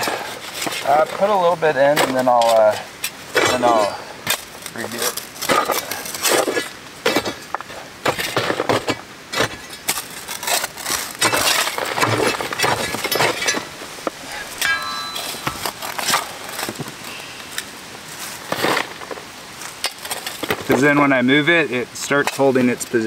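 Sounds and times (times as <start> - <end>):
shovel scraping rocky dirt: 0.0 - 21.2
stones clinking: 1.9 - 21.0.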